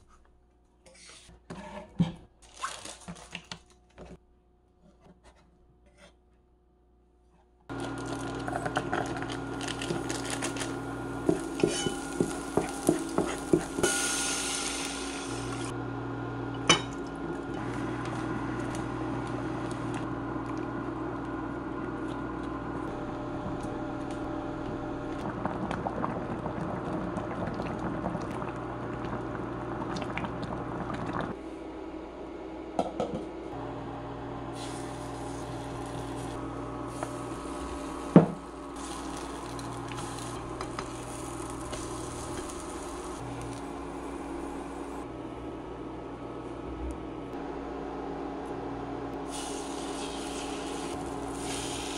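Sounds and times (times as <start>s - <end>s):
cooktop hum: 0.0s - 51.9s.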